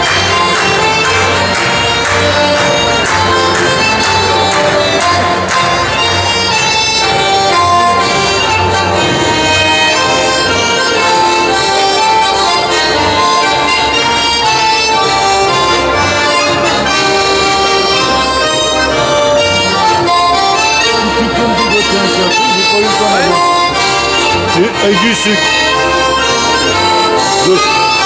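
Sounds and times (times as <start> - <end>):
double bass: 0.0 - 24.8
accordion: 0.0 - 28.0
live band playing folk dance: 0.0 - 28.0.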